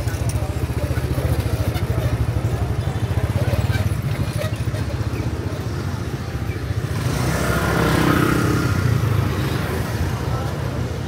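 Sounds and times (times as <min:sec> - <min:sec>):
motorbike engines running: 0:00.0 - 0:11.0
street traffic: 0:00.0 - 0:11.0.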